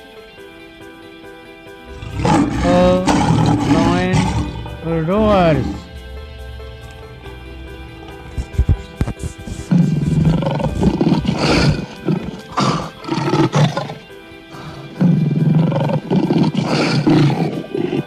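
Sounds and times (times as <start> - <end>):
lion roaring and grunting: 1.9 - 18.0.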